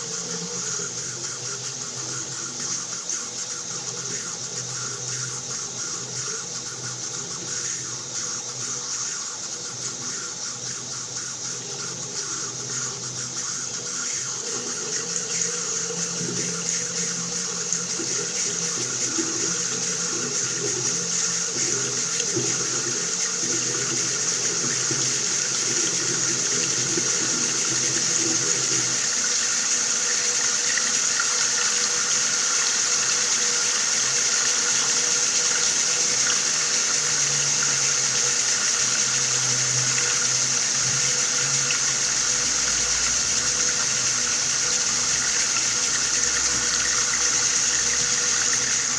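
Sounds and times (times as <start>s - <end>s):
water running from a tap: 0.0s - 48.9s.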